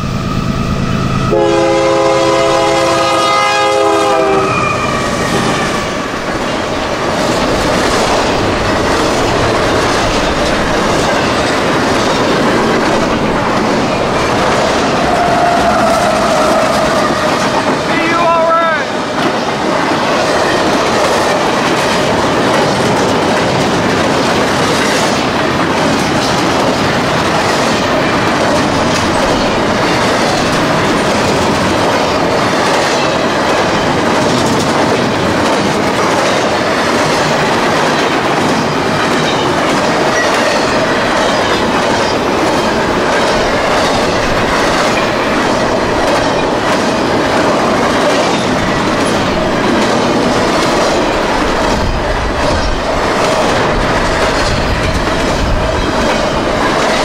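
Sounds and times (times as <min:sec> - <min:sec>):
freight train rumbling past: 0:00.0 - 0:57.0
train wheels clickety-clack: 0:01.4 - 0:57.0.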